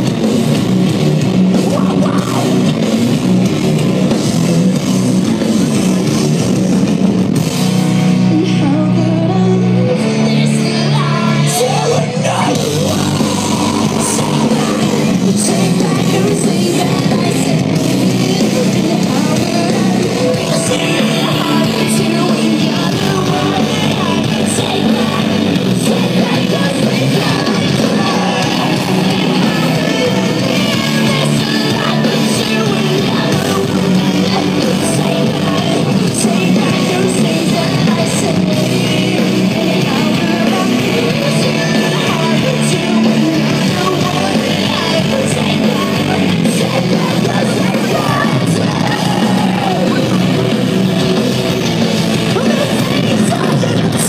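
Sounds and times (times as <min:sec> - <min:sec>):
live rock band playing: 0:00.0 - 0:54.0
person singing: 0:01.5 - 0:02.8, 0:08.2 - 0:54.0.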